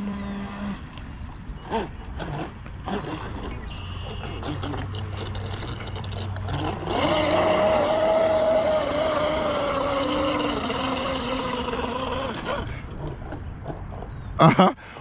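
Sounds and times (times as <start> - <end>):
boat motor whining: 0.0 - 14.6.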